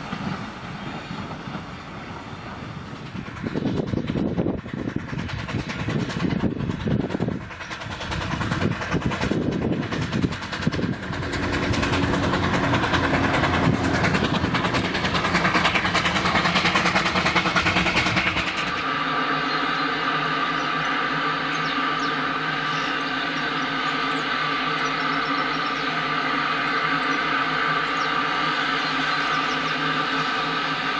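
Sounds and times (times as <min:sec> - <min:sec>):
train running: 0:00.0 - 0:30.9.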